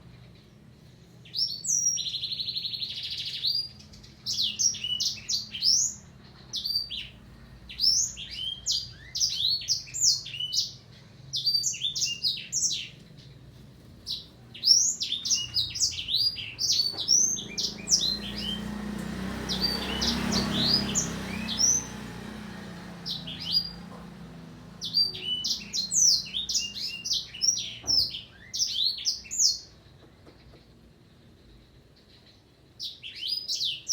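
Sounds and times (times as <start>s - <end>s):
bird trill: 0.0s - 24.0s, 24.7s - 29.8s, 32.0s - 33.9s
canary singing: 0.0s - 29.8s, 32.0s - 33.9s.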